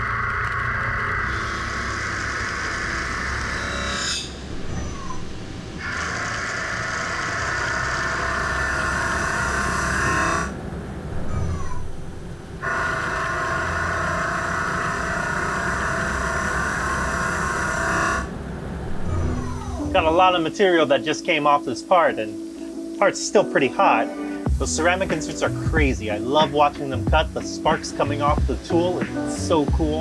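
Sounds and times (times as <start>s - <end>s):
lathe cutting whine: 0.0s - 11.1s, 12.1s - 19.0s, 19.8s - 30.0s.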